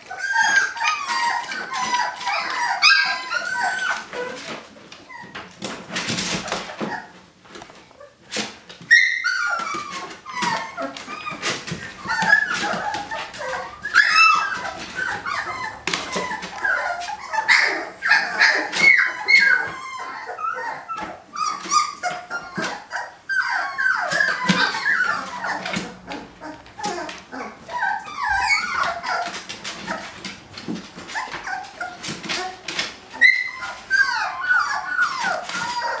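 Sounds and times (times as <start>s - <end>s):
puppies whining and squeaking: 0.0s - 36.0s.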